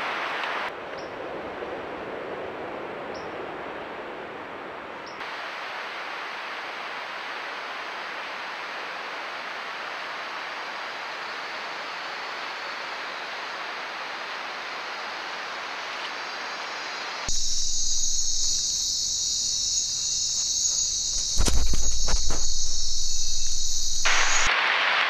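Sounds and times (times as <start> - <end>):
rainforest ambience hiss: 0.0 - 25.0.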